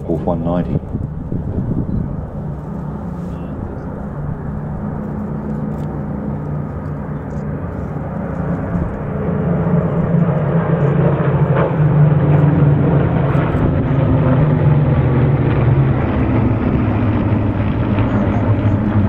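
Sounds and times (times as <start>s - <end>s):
aircraft piston engines drone: 0.0s - 19.0s.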